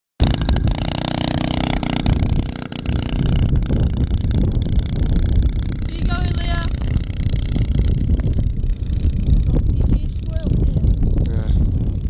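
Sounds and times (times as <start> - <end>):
dirt bike engine running: 0.2 - 12.0.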